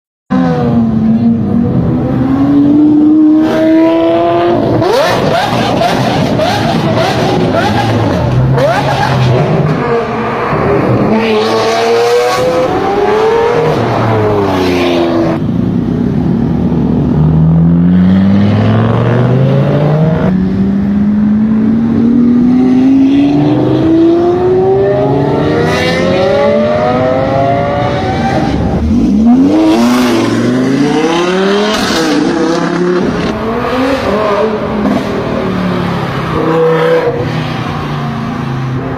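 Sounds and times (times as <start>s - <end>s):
car engine revving: 0.3s - 38.9s.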